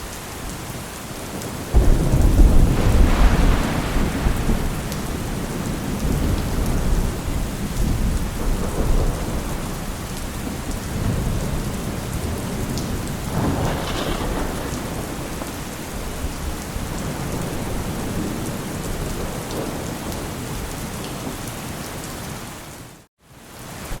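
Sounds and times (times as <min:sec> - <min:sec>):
heavy rain falling: 0:00.0 - 0:24.0
rolling thunder: 0:01.3 - 0:20.8.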